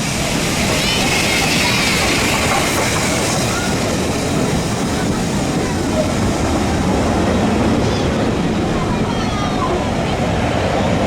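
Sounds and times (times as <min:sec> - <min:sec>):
train rumbling: 0:00.0 - 0:11.0
faint voices: 0:00.6 - 0:11.0.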